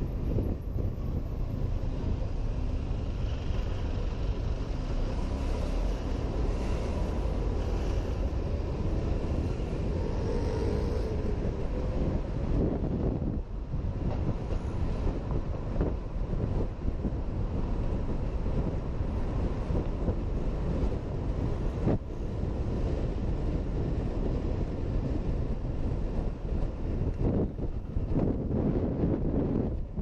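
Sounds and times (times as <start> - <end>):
road noise: 0.0 - 30.0
wind noise: 0.0 - 30.0.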